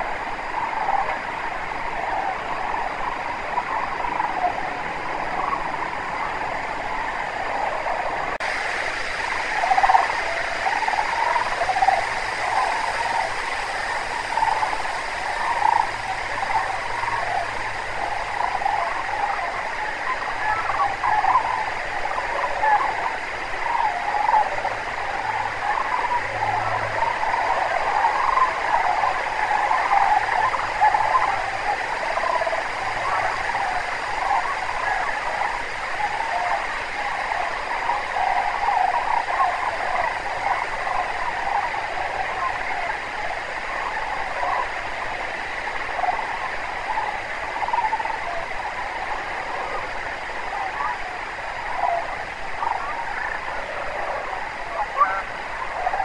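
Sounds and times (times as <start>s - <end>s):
flock of cranes calling: 0.0s - 56.0s.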